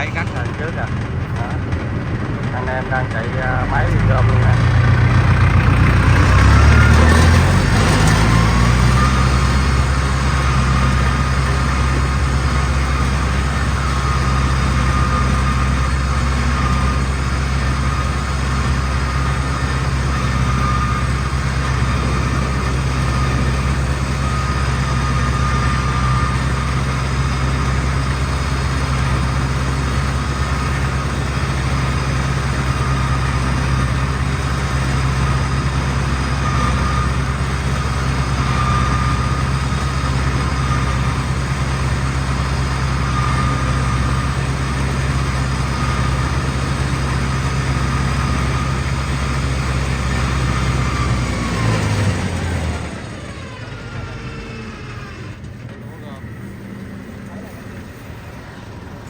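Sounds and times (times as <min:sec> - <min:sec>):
farm machine engine running: 0:00.0 - 0:59.0.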